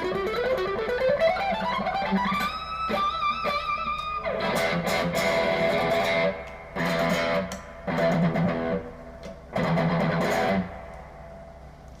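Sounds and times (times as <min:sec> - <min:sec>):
electric guitar through amp: 0:00.0 - 0:12.0.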